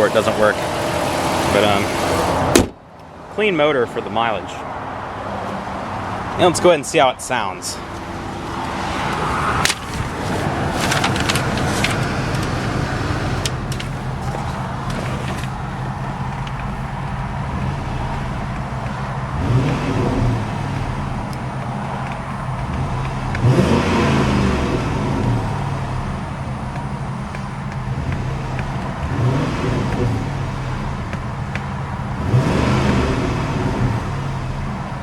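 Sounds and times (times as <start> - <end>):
engine revving: 0.0 - 2.6, 5.0 - 35.0
car engine idling: 0.0 - 35.0.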